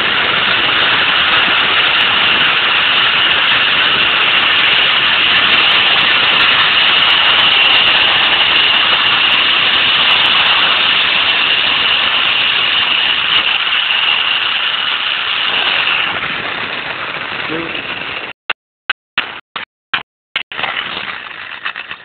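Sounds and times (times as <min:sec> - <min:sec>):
zip-line pulleys whirring on cable: 0:00.0 - 0:18.3, 0:20.5 - 0:22.0.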